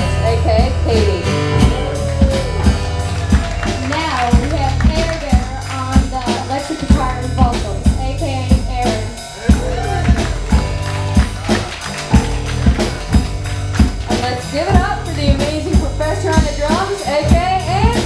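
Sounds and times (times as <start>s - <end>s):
electric guitar: 0.0s - 7.4s, 8.8s - 18.0s
drum kit beat: 0.0s - 18.0s
electric bass: 0.0s - 18.0s.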